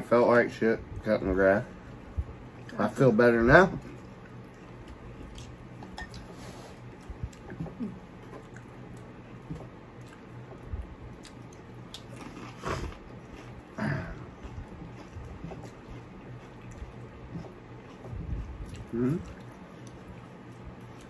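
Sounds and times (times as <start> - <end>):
chewing and mouth sounds: 1.8 - 21.0.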